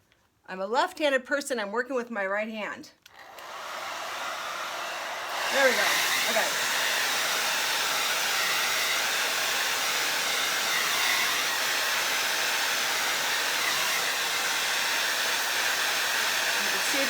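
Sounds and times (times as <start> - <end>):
hair dryer blowing: 3.1 - 17.0.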